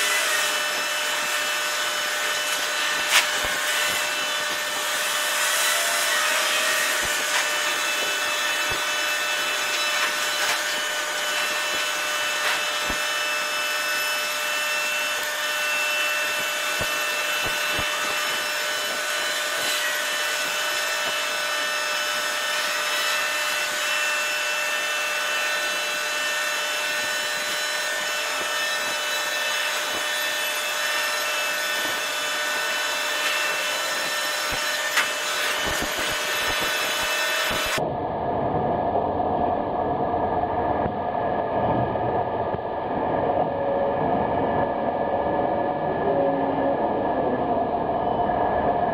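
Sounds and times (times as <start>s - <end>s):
machinery whining tones: 0.0s - 48.9s.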